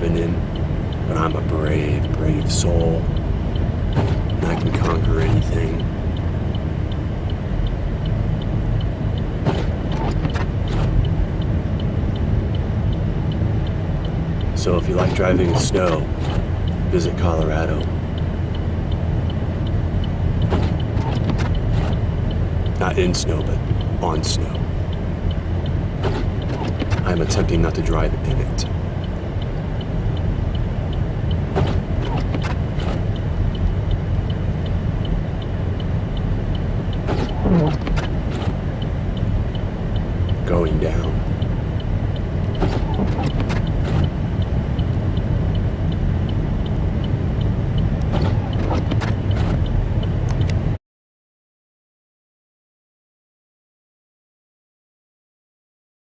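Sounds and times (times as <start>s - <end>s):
car engine and road rumble: 0.0s - 50.8s
hazard light flasher ticking: 0.0s - 50.8s.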